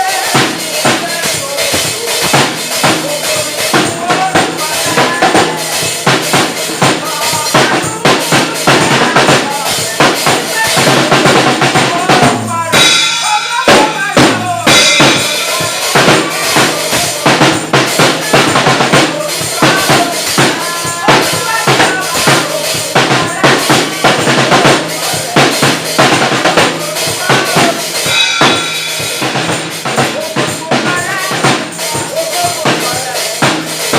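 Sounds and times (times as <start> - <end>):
drum kit playing a busy beat: 0.0 - 33.9.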